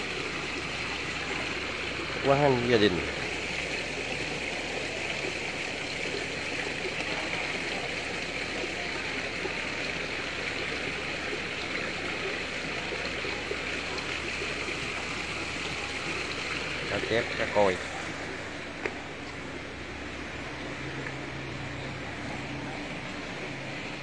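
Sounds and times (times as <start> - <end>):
waterfall splashing into pond: 0.0 - 24.0.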